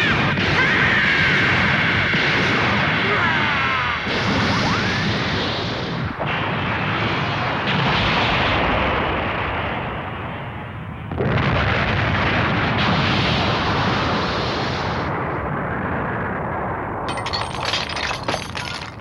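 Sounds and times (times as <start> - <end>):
heavy explosion blasts with rumbling: 0.0 - 19.0.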